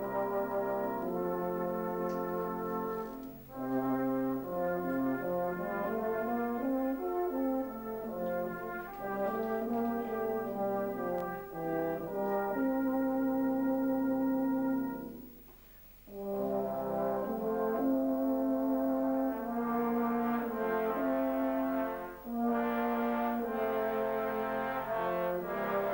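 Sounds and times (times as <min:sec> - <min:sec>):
euphonium solo melody: 0:00.0 - 0:15.4, 0:16.1 - 0:25.9
brass band sustained chords: 0:00.0 - 0:25.9.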